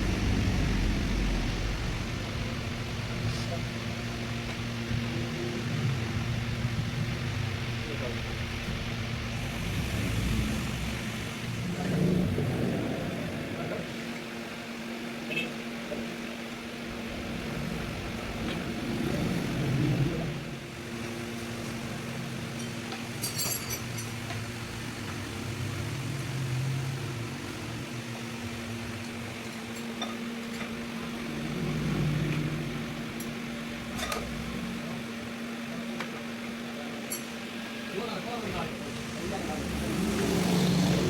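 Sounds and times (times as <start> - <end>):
vehicles passing: 0.0 - 4.2, 5.0 - 14.0, 16.8 - 29.4, 30.6 - 35.4, 37.8 - 41.0
steady hum: 0.0 - 41.0.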